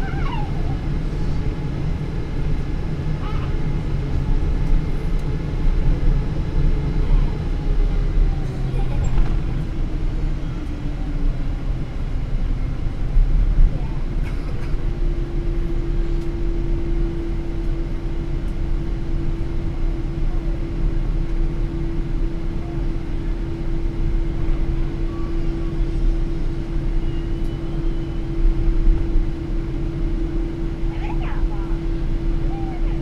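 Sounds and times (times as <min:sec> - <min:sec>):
aircraft engines rumbling: 0:00.0 - 0:33.0
constant cabin hum: 0:00.0 - 0:33.0.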